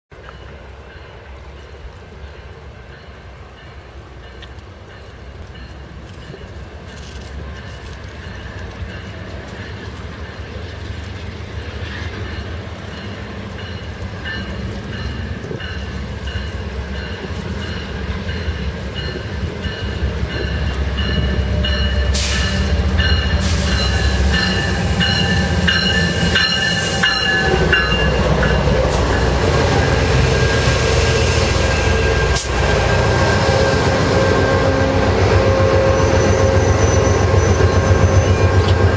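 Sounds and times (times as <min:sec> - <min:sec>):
diesel locomotive engine rumble: 0:00.1 - 0:38.9
train bell ringing: 0:00.2 - 0:10.6, 0:12.2 - 0:32.5, 0:33.4 - 0:38.9
train wheels rolling: 0:00.2 - 0:38.9.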